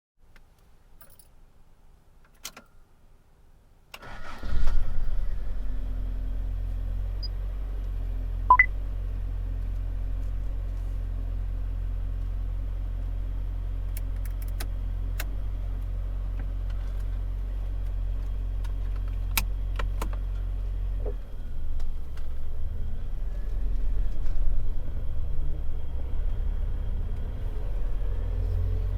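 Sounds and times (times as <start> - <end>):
car engine starting and idling: 3.9 - 28.9.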